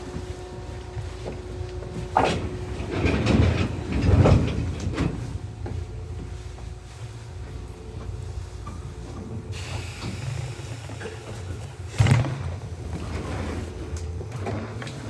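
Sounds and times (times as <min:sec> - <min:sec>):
electric train rumbling: 0:00.0 - 0:15.0
train wheels clattering: 0:00.1 - 0:15.0.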